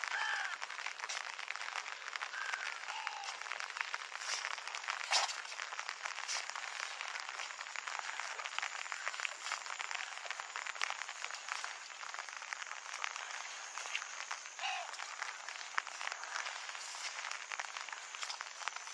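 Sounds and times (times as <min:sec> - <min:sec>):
steady rain patter: 0:00.0 - 0:18.9.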